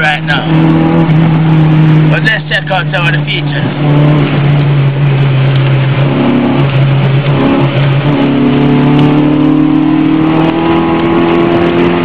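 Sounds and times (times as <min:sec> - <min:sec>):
road noise: 0:00.0 - 0:12.0
vehicle engine revving: 0:00.0 - 0:12.0.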